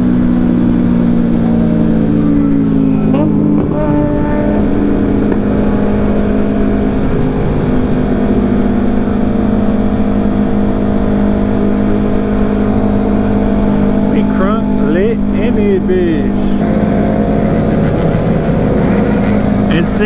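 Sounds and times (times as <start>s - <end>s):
motorcycle engine running: 0.0s - 20.0s
wind noise: 0.0s - 20.0s.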